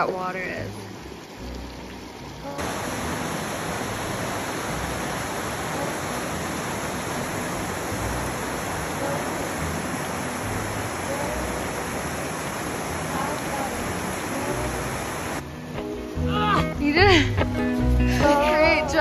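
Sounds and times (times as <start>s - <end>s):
creek rushing over rocks: 0.0s - 15.4s.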